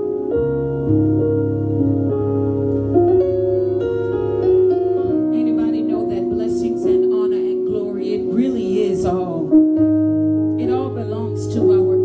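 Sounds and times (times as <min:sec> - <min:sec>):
keyboard playing slow chords: 0:00.0 - 0:12.0.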